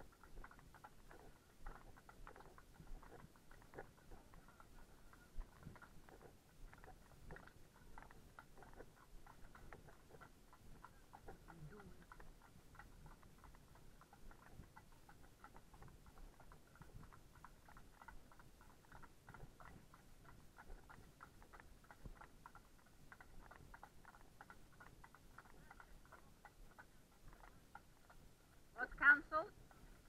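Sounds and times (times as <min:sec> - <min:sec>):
horse hooves clip-clopping: 0:00.0 - 0:30.0.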